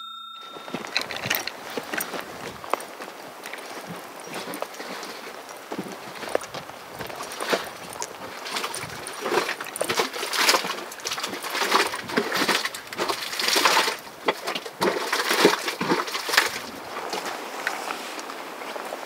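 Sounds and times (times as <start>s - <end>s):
footsteps on gravel: 0.4s - 19.0s.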